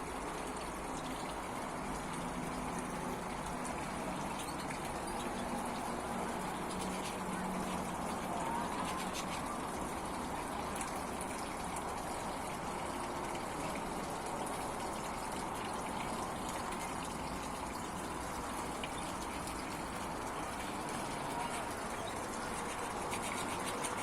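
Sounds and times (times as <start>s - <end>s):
water pouring and splashing: 0.0s - 24.0s.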